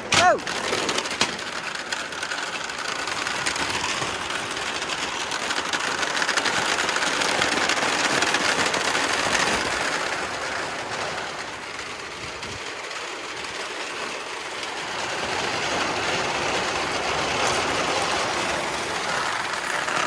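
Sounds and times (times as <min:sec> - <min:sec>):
balls rattling down wooden track: 0:00.0 - 0:20.0.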